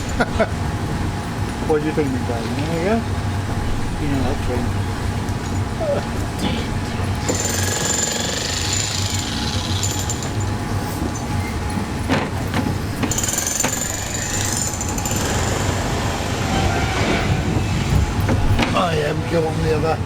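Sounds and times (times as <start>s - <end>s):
diesel train engine idling: 0.0s - 20.0s.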